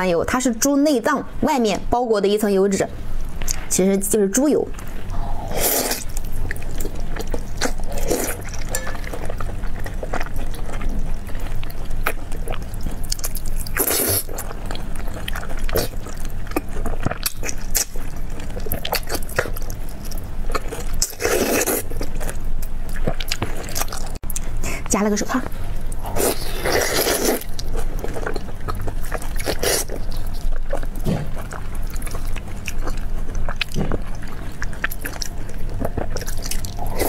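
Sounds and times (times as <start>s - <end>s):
wet chewing and biting: 4.8s - 24.6s, 25.9s - 37.0s.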